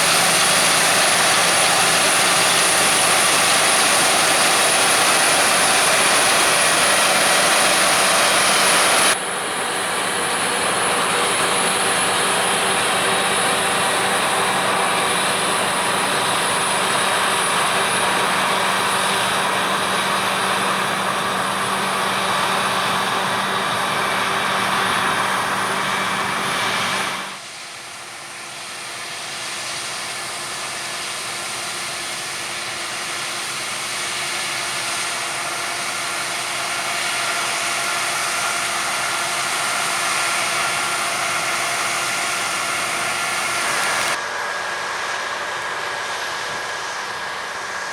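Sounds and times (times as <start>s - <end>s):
heavy harvest machinery running: 0.0s - 47.9s.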